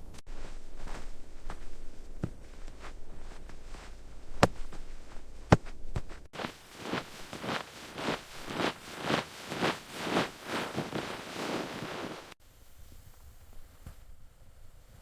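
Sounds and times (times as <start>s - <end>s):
footsteps crunching through snow: 0.3s - 12.4s.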